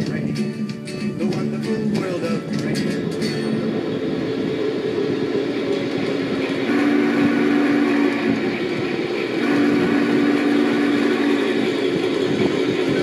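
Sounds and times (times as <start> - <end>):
long low steady tones: 0.0 - 13.0
train rumbling: 0.0 - 13.0.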